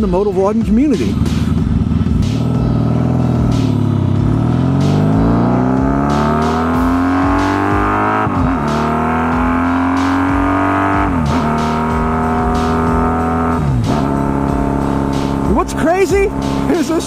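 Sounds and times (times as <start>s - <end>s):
motorcycle accelerating: 0.2s - 17.0s.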